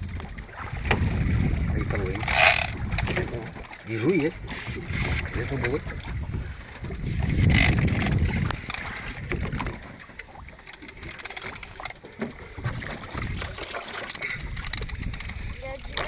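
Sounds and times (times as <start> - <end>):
wind on microphone: 0.0 - 11.2, 12.5 - 13.6, 14.2 - 16.0
water moving against boat hull: 0.0 - 16.0.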